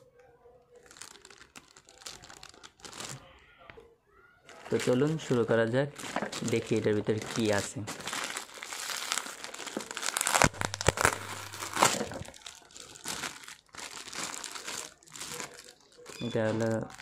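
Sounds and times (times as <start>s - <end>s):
plastic bag crinkling: 0.7s - 3.4s, 4.5s - 17.0s.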